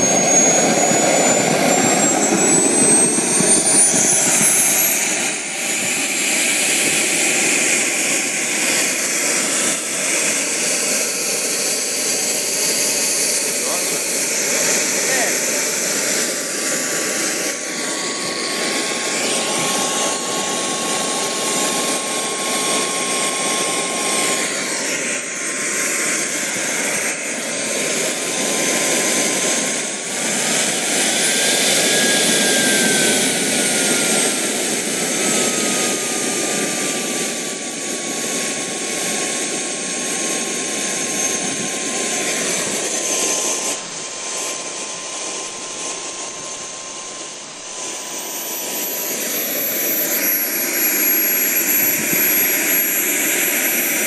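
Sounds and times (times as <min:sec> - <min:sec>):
turbine engine whining: 0:00.0 - 0:54.0.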